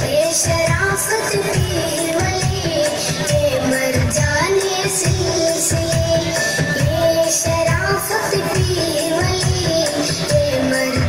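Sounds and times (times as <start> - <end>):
loud song with beat and vocals: 0.0 - 11.0.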